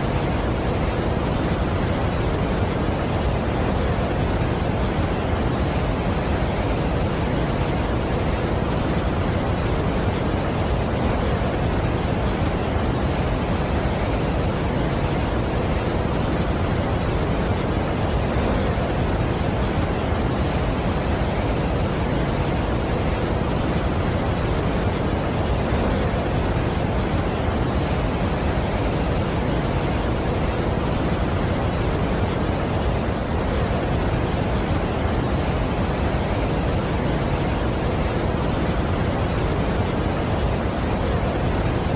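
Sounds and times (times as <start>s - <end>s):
waterfall roar: 0.0s - 41.9s.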